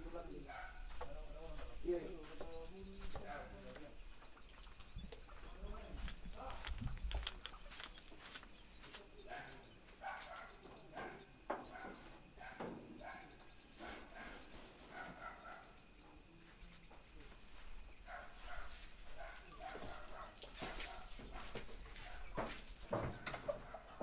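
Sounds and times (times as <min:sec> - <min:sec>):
shuffles and soft knocks: 0:00.0 - 0:13.0, 0:16.5 - 0:23.8
cricket chirping: 0:00.0 - 0:24.0.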